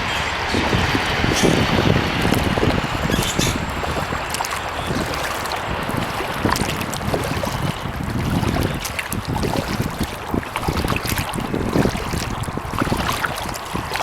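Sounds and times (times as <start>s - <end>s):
wind rumbling on microphone: 0.0s - 14.0s
paddle water splashes and drips: 0.5s - 14.0s.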